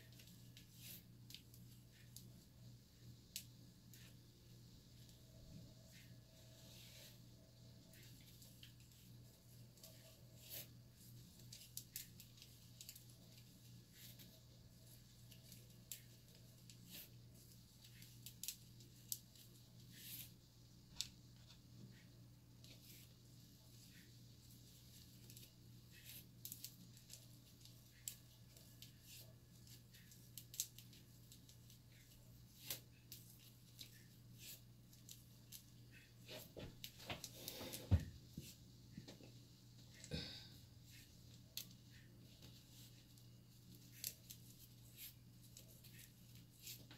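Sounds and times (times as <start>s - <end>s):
fingers rustling through braids: 0.0s - 46.9s
low steady hum: 0.0s - 46.9s.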